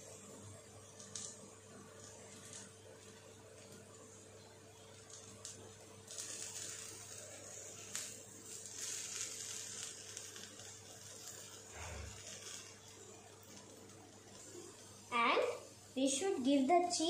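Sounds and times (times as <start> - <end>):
potato frying in butter: 0.0 - 17.0.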